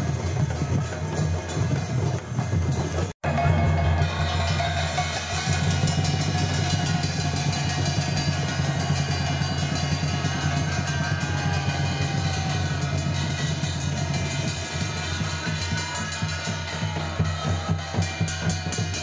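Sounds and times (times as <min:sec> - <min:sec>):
barrel drums beaten fast: 0:00.0 - 0:19.0.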